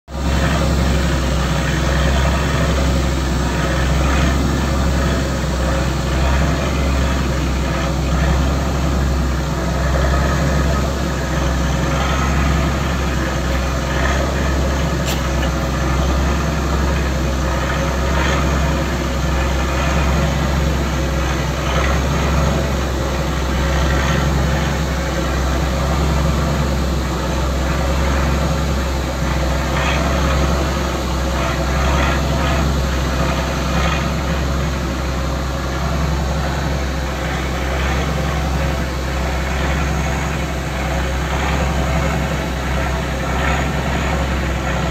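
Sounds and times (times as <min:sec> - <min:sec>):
boat engine droning: 0:00.1 - 0:44.9.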